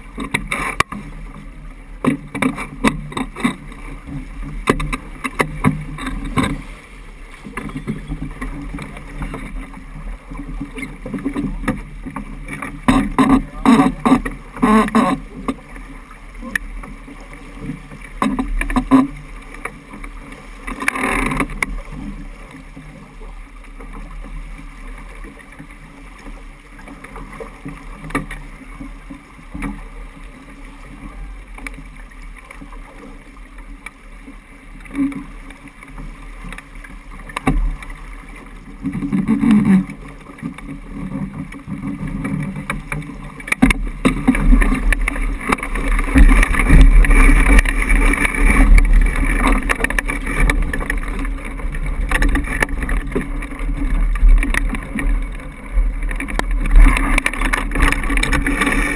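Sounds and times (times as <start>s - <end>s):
water rushing along hull: 0.0s - 58.9s.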